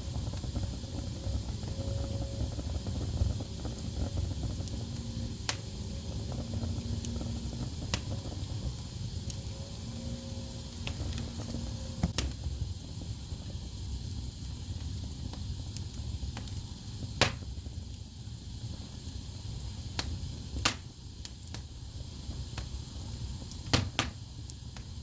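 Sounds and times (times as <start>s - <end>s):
logs crackling and popping: 0.0s - 25.0s
low rumble of flames: 0.0s - 25.0s.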